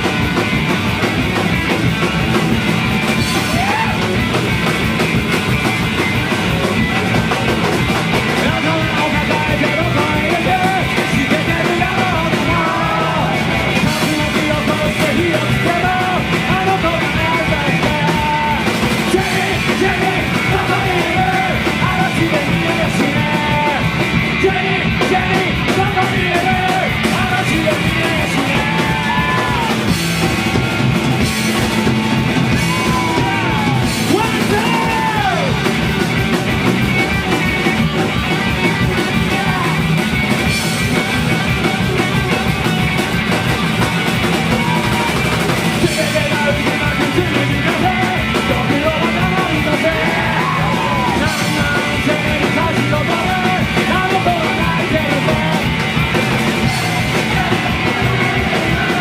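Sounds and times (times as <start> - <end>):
live punk rock band: 0.0 - 59.0
singer yelling: 3.2 - 4.4, 8.1 - 35.8, 38.1 - 42.6, 43.5 - 59.0.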